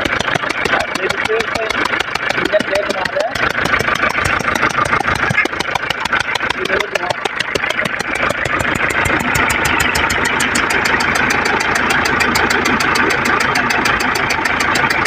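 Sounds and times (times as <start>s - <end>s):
diesel engine idling with ticking: 0.0s - 15.0s.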